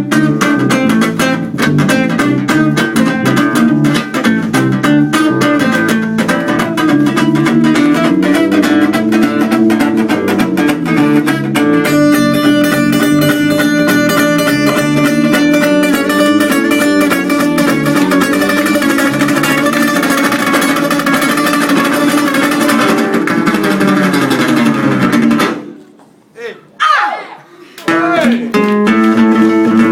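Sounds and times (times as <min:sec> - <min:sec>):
instrumental guitar music: 0:00.0 - 0:26.3, 0:27.8 - 0:29.9.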